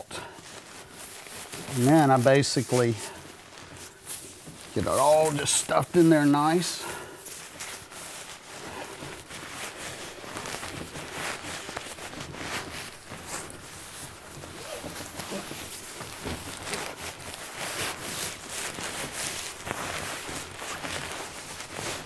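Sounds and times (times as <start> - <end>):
sleeping bag stuffed into sack: 0.0 - 22.0.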